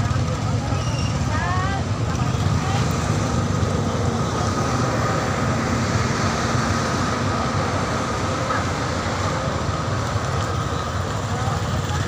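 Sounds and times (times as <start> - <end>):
motorbike engines running: 0.0 - 12.0
road noise: 0.0 - 12.0.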